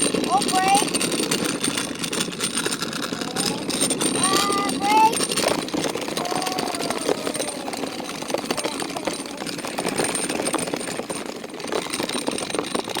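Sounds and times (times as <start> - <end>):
go-kart rattling over pavement: 0.0 - 13.0.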